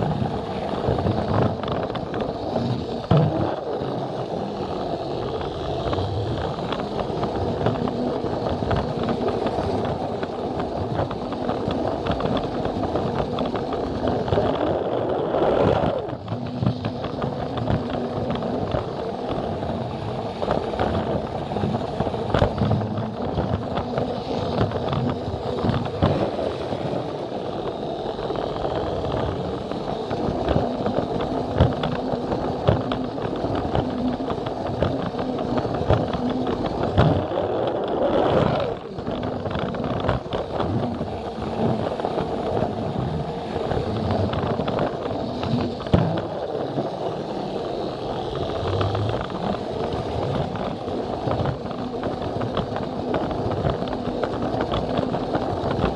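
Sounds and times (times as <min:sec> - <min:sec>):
wheels clicking over rail joints: 0:00.0 - 0:55.9.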